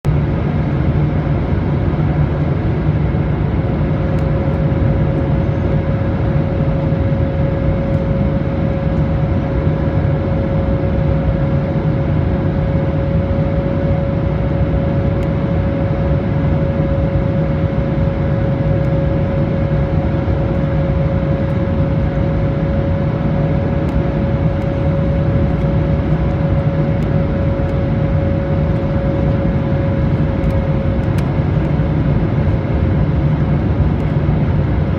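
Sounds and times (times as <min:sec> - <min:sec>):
steady whine: 0:00.1 - 0:34.9
aircraft cabin noise: 0:01.3 - 0:34.9.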